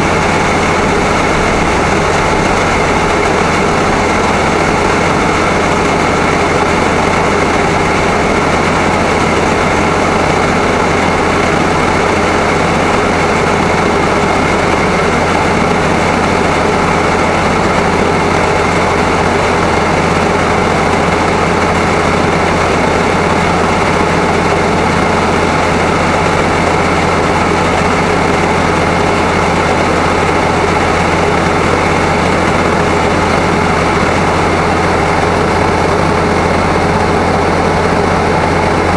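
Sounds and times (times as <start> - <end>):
truck engine humming: 0.0 - 38.9.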